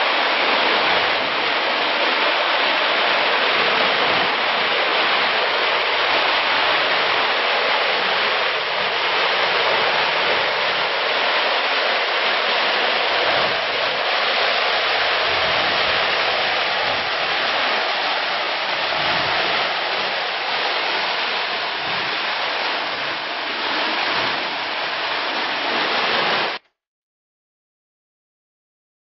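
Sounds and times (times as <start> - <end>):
rushing whitewater: 0.0 - 26.6.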